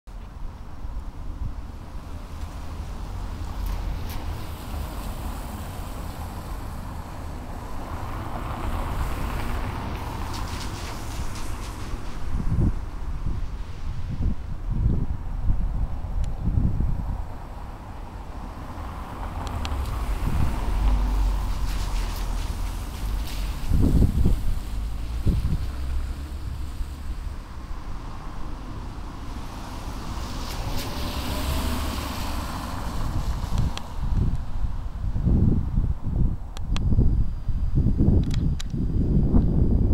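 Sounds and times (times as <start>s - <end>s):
car passing on street: 0.1s - 37.9s
steady outdoor hiss: 0.1s - 39.9s
wind rumbling on microphone: 0.1s - 39.9s.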